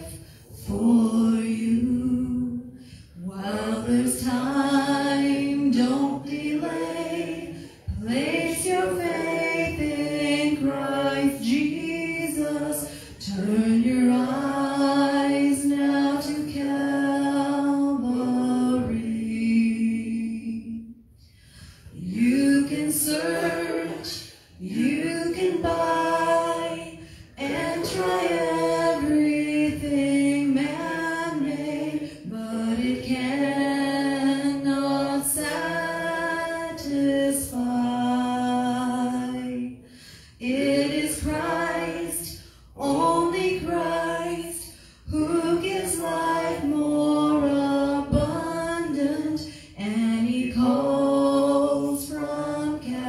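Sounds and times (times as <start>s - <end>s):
woman singing into microphone: 0.0s - 20.9s, 21.9s - 39.8s, 40.4s - 53.0s.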